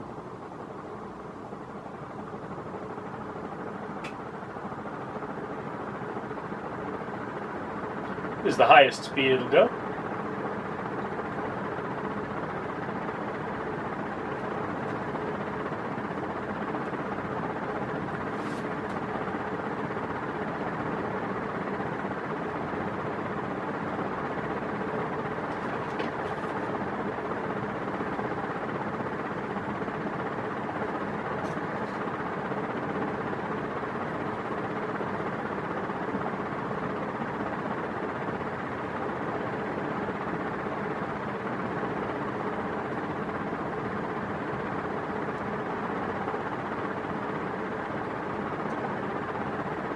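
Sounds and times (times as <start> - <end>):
ceiling fan air rush: 0.0 - 49.9
faint fan hum: 0.0 - 49.9.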